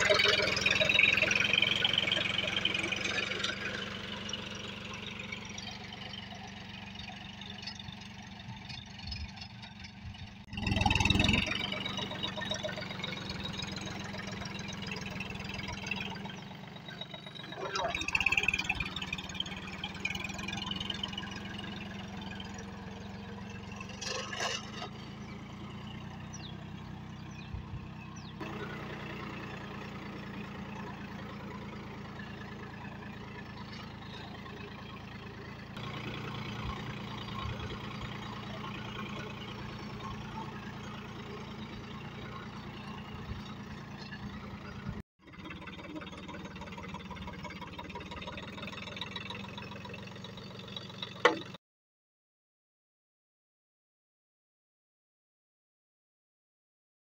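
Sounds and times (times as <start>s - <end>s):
tractor diesel engine running: 0.0s - 51.6s.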